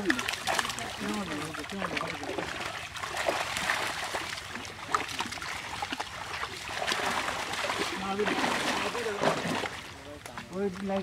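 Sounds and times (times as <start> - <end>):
fish thrashing in net: 0.0 - 9.9
water splashing and trickling: 0.0 - 11.0.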